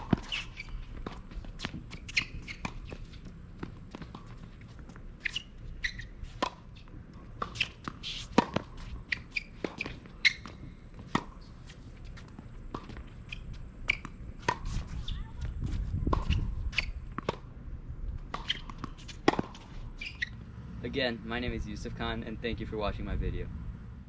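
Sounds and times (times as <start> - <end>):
racket hitting tennis ball: 0.0 - 17.5, 18.2 - 20.4
tennis ball bouncing: 0.0 - 17.5, 18.2 - 20.5
shoes squeaking on court: 0.0 - 20.6.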